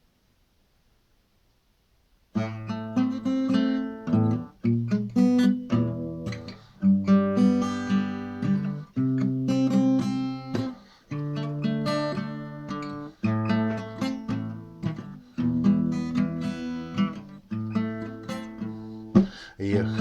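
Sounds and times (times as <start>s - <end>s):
acoustic guitar strumming chords: 2.4s - 20.0s.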